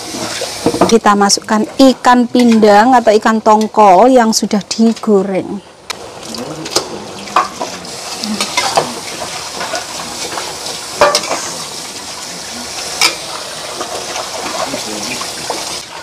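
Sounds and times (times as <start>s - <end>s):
food sizzling: 0.0s - 16.0s.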